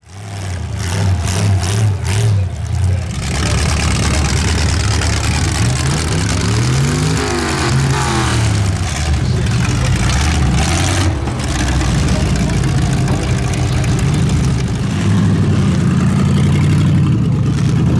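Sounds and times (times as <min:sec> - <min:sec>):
car engines running rough: 0:00.0 - 0:17.9
engine revving: 0:00.0 - 0:17.9.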